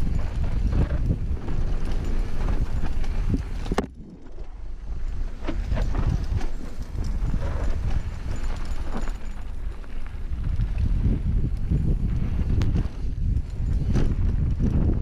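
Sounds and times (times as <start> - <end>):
bike rattling and knocking: 0.0 - 15.0
tyres and wind rumbling: 0.0 - 15.0.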